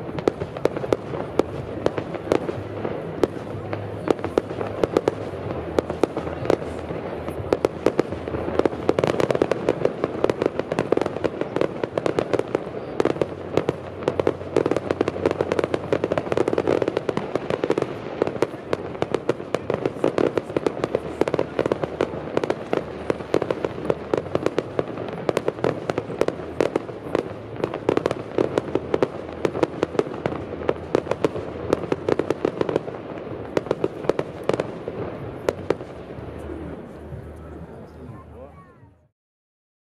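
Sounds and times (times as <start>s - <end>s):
fireworks bangs and crackles: 0.0s - 38.7s
fireworks rumble: 0.0s - 39.1s.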